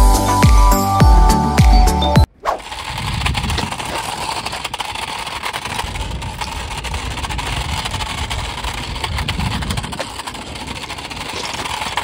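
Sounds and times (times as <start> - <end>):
wheels ticking on grit: 2.2 - 12.0
toy car motor whirring: 2.3 - 12.0.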